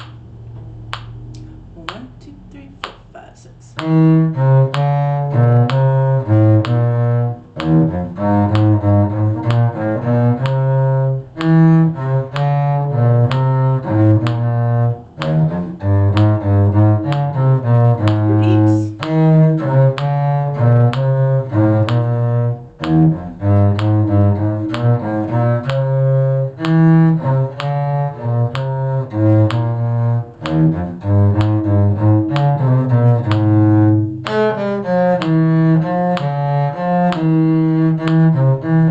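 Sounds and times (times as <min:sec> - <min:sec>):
bowed string music with cello: 0:00.0 - 0:03.0, 0:03.8 - 0:38.9.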